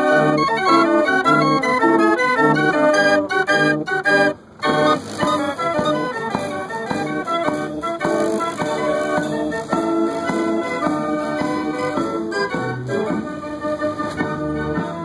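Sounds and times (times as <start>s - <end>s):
band organ playing a tune: 0.0s - 15.0s
drum strokes: 0.0s - 15.0s.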